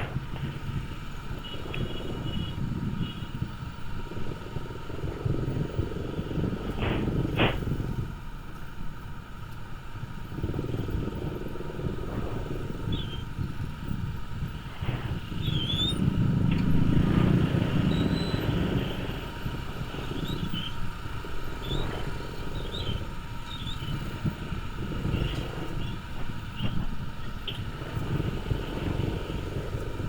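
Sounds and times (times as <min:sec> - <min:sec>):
motorcycle engine running: 0:00.0 - 0:30.0
road noise: 0:00.0 - 0:30.0.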